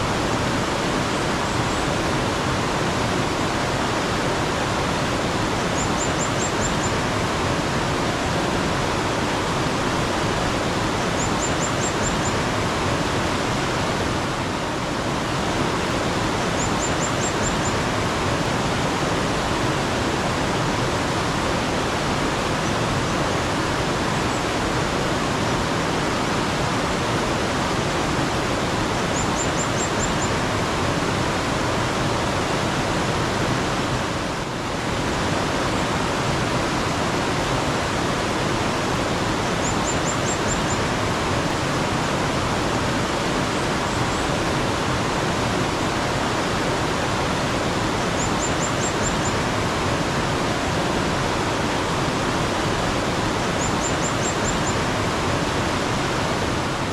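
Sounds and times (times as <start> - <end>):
mountain stream rushing: 0.0 - 56.9.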